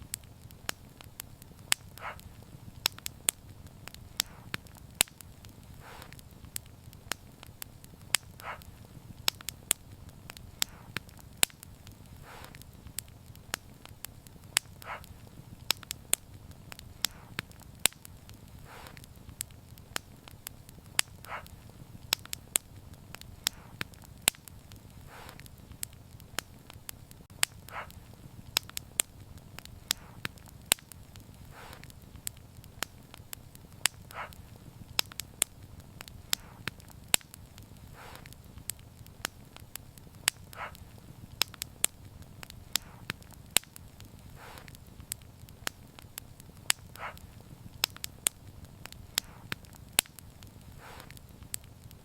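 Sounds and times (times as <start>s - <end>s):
soft hiss: 0.0s - 52.0s
wood fire crackling: 0.0s - 52.0s.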